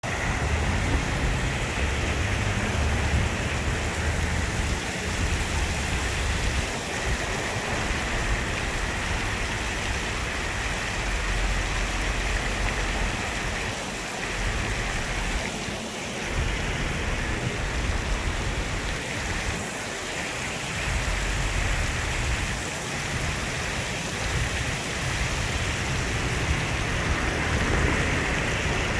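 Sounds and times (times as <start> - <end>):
water fountain splashing: 0.0 - 28.9.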